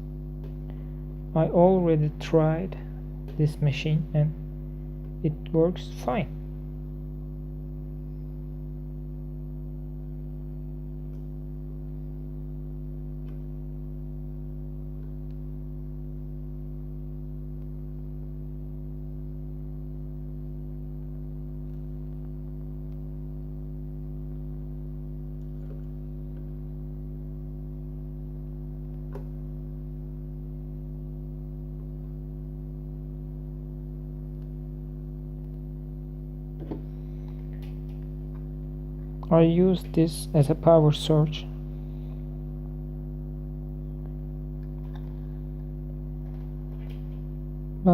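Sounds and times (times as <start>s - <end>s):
electrical hum: 0.0s - 47.9s.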